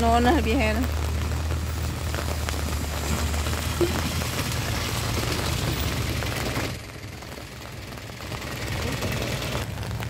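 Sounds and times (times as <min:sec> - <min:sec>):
truck engine rumble: 0:00.0 - 0:10.0
tyre noise on wet road: 0:00.0 - 0:10.0.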